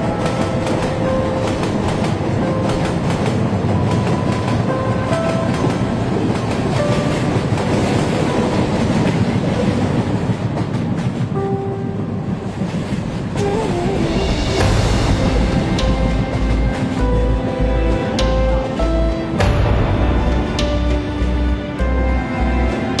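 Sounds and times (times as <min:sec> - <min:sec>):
train carriage rumbling and rattling: 0:00.0 - 0:23.0.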